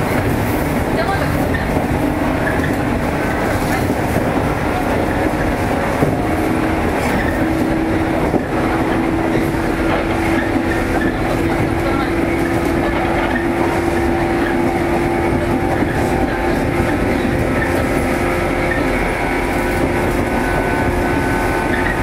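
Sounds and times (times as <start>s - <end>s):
electric train humming: 0.0s - 22.0s.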